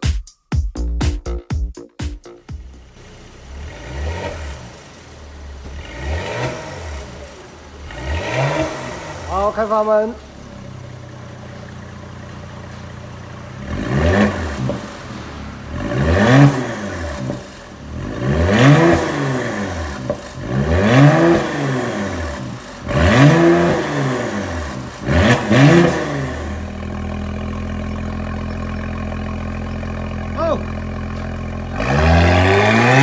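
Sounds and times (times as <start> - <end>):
car engine idling: 2.4 - 33.0
engine revving: 2.6 - 33.0.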